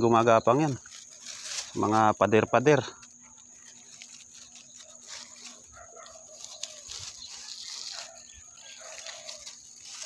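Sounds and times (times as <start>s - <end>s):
dry grass and leaves rustling: 0.0s - 10.0s.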